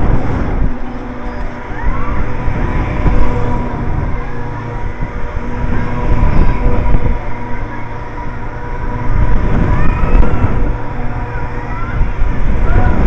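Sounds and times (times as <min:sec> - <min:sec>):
amusement ride mechanical hum: 0:00.0 - 0:13.0.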